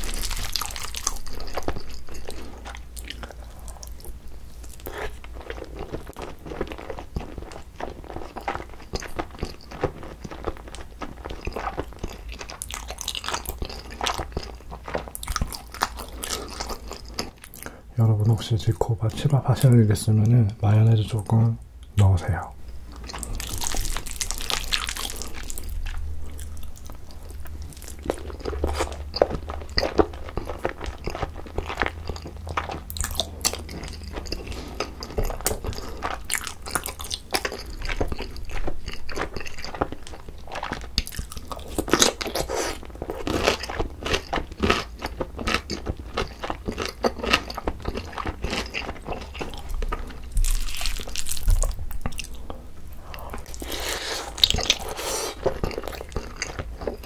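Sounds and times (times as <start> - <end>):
person chewing and crunching: 0.0 - 17.8, 22.9 - 57.0.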